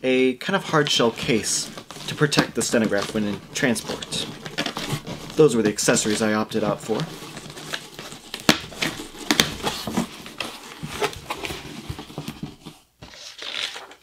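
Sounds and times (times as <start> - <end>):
cardboard box flaps scraping: 1.0 - 12.8.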